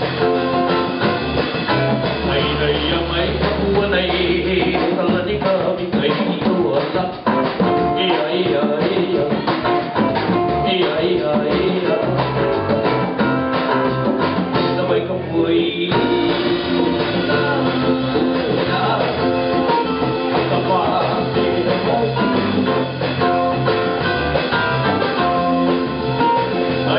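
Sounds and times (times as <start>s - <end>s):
congas: 0.0s - 26.9s
drum kit: 0.0s - 26.9s
electric bass: 0.0s - 26.9s
guitar: 0.0s - 26.9s.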